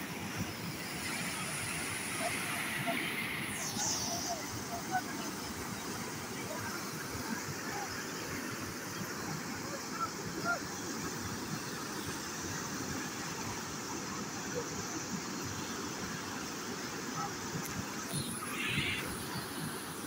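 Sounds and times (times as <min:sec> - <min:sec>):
water rushing through sluice: 0:00.0 - 0:20.0.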